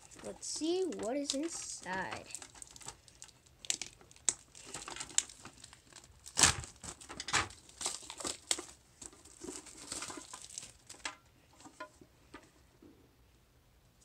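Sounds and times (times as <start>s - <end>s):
plastic wrap crinkling: 0.0s - 11.8s.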